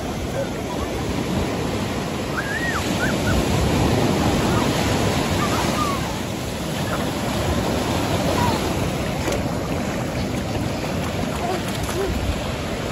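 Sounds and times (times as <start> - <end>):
sea waves breaking on sand: 0.0 - 12.9.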